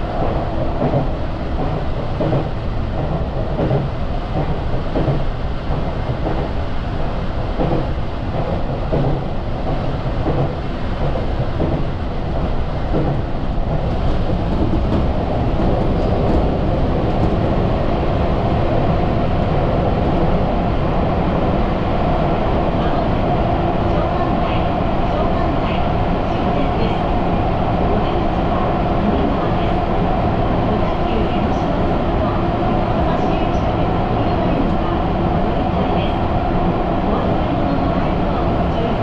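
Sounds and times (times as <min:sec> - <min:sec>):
steady train hum: 0:00.0 - 0:39.0
train rumbling on track: 0:00.0 - 0:39.0.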